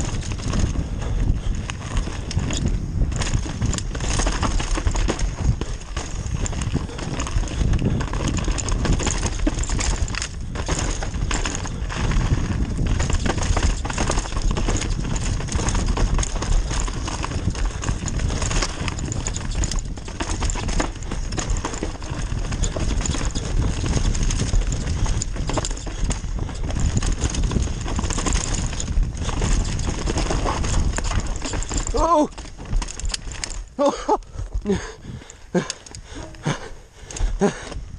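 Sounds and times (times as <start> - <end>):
bike rattling: 0.0 - 37.9
tyres on dirt and roots: 0.0 - 37.9
wind on microphone: 0.0 - 37.9.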